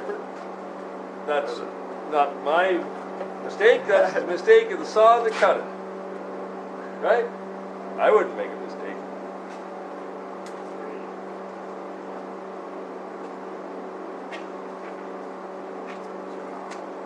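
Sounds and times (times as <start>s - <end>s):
electrical machine hum: 0.0s - 17.0s.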